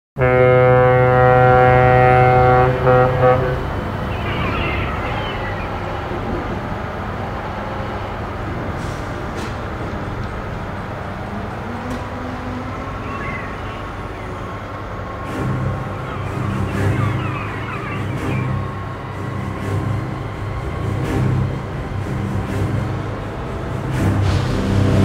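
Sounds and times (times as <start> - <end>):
heavy road vehicles rumbling: 0.2 - 25.0.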